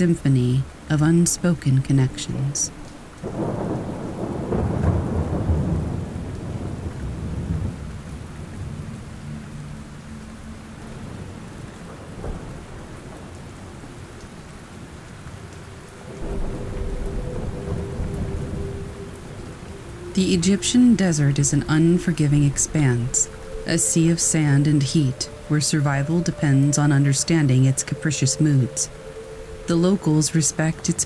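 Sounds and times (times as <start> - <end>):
steady rain: 0.0 - 31.0
thunder rumbling: 1.9 - 15.2, 15.9 - 31.0.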